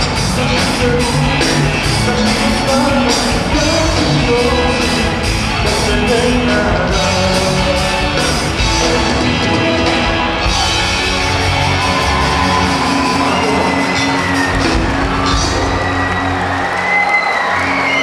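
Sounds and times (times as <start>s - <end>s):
pop-rock band playing live: 0.0s - 18.0s.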